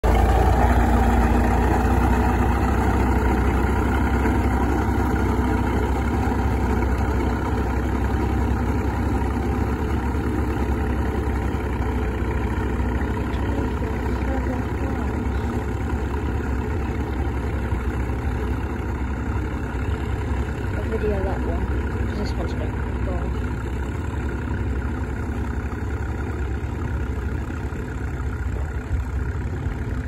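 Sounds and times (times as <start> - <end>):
tractor engine running under load: 0.0 - 30.0.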